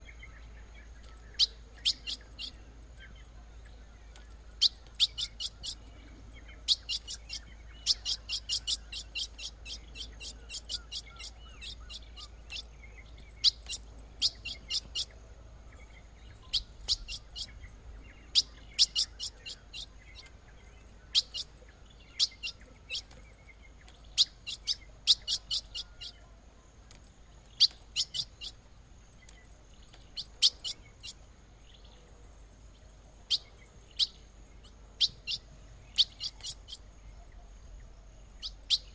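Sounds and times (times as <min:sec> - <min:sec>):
bird chip calls: 0:00.0 - 0:38.9.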